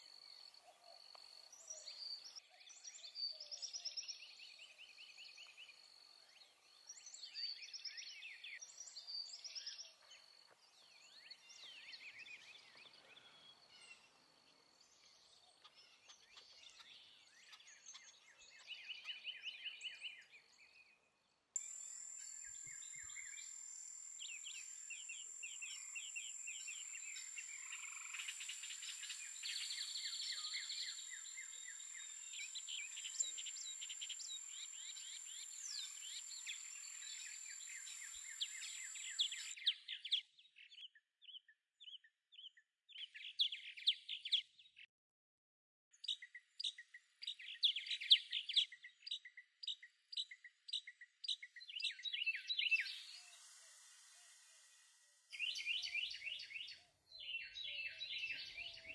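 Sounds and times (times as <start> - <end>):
songbirds chirping and singing: 0.0 - 44.9, 46.0 - 53.6, 55.3 - 58.9.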